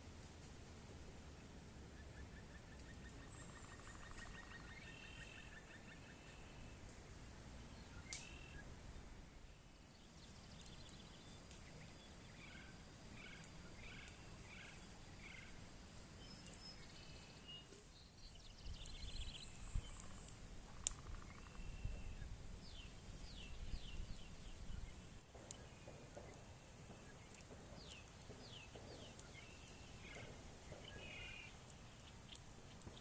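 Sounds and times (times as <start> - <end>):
birds calling: 1.9 - 6.8, 9.8 - 15.6, 16.2 - 33.0.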